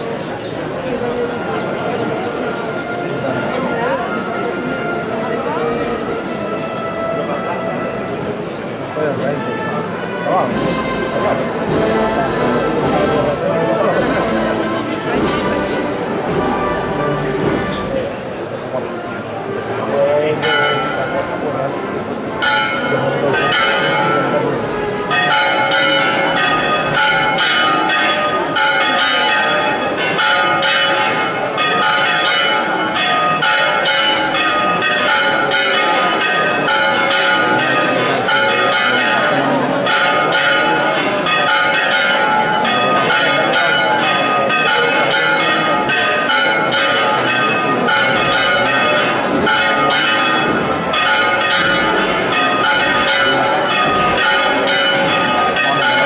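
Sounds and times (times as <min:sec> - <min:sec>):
church bells ringing fast: 0:00.0 - 0:19.2, 0:19.8 - 0:56.0.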